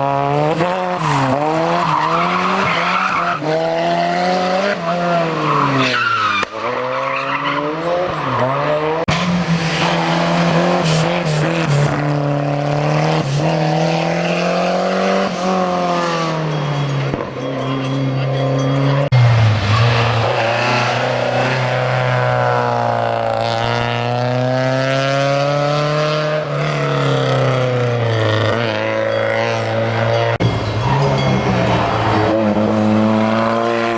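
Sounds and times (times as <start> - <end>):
rally car engines revving: 0.0 - 33.9.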